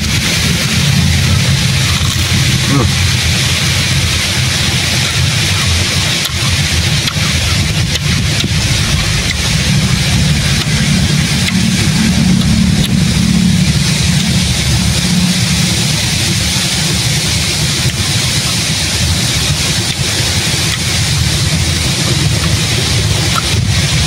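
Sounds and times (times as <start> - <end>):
low rumble with hiss: 0.0 - 24.0.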